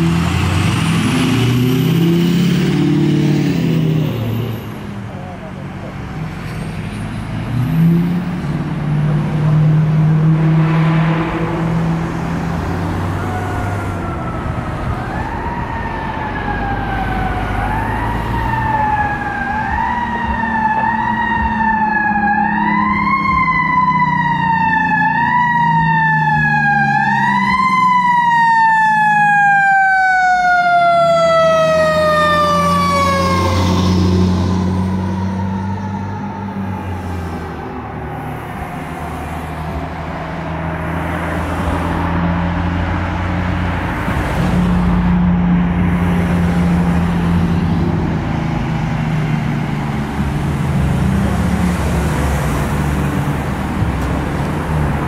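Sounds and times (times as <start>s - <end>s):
fire truck siren wailing: 0.0s - 6.2s, 7.8s - 55.0s
truck engine drone: 0.0s - 55.0s.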